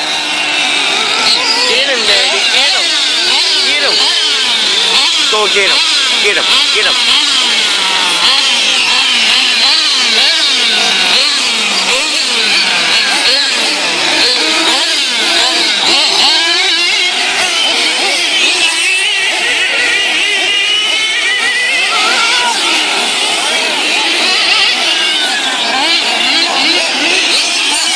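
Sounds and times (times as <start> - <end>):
racing engines revving: 0.0 - 27.9.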